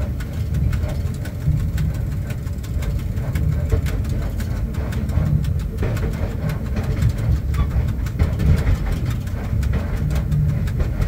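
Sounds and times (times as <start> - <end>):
locomotive cab rumble: 0.0 - 11.0
small irregular clicks and knocks: 0.0 - 11.0.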